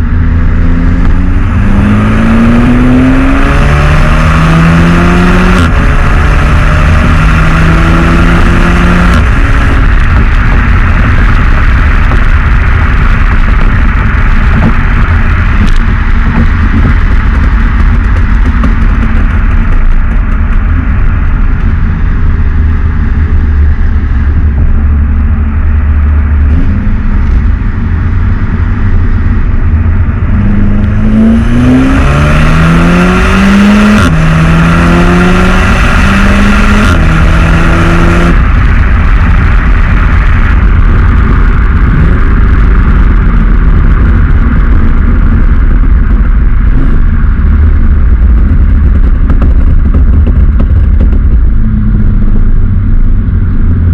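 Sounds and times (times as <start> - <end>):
car engine rumbling and accelerating: 0.0 - 53.9.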